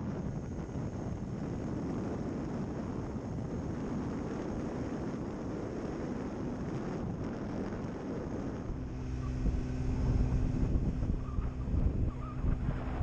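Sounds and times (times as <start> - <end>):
wind buffeting microphone: 0.0 - 13.0
scooter engine hum: 0.1 - 13.0.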